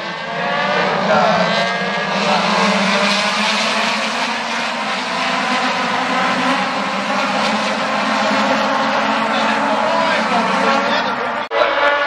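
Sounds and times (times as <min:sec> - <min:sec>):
race cars driving past: 0:00.0 - 0:12.0.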